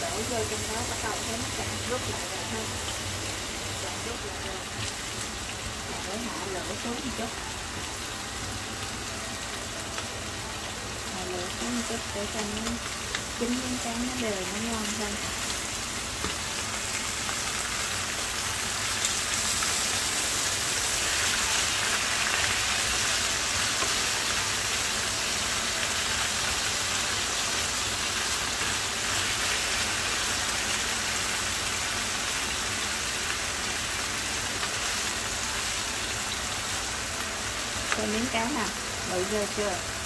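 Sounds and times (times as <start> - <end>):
fish sizzling in a frying pan: 0.0 - 40.0.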